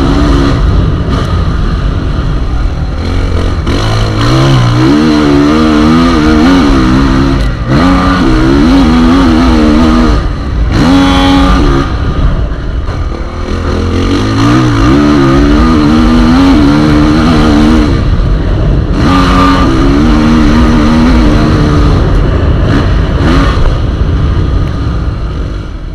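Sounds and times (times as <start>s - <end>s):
heavy low rumble: 0.0s - 25.9s
motocross bike engines revving: 0.0s - 25.9s.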